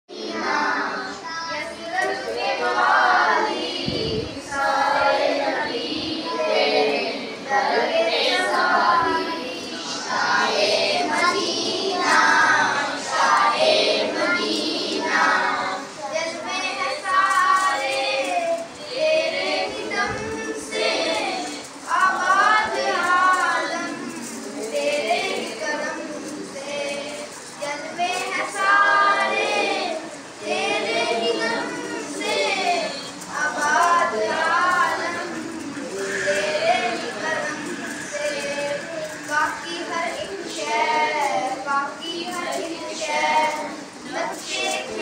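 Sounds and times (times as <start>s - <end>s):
boy singing devotional song: 0.1s - 45.0s.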